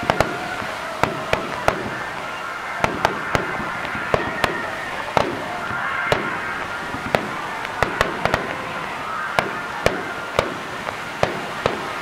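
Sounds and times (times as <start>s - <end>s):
firework shells bursting: 0.0s - 12.0s
steady background hiss: 0.0s - 12.0s.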